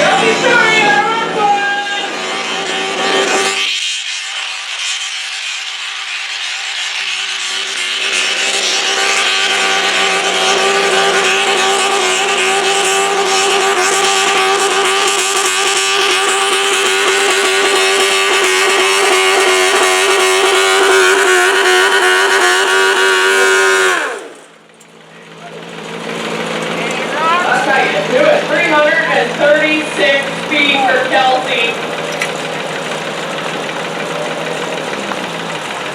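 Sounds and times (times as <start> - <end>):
garden tractor engine high-revving: 0.0 - 35.9.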